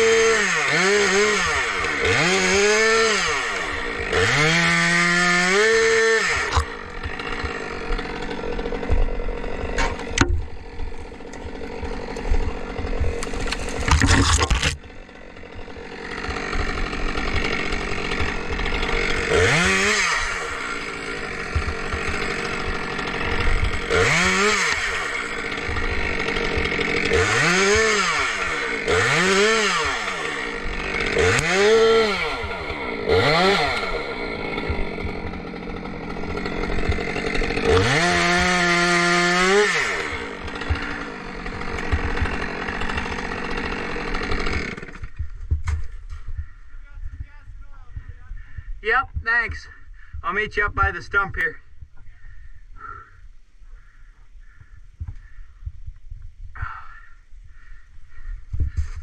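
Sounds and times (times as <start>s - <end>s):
chainsaw revving: 0.0s - 46.6s, 52.8s - 53.2s, 56.6s - 59.0s.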